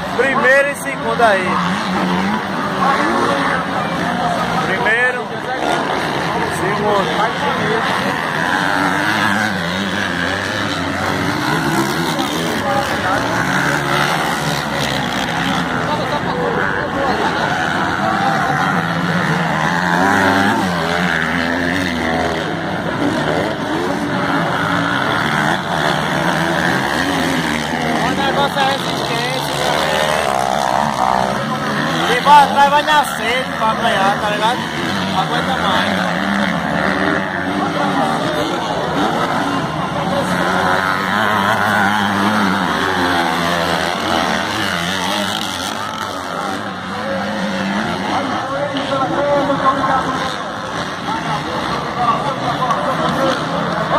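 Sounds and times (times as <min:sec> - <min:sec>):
motorcycles revving: 0:00.0 - 0:53.9.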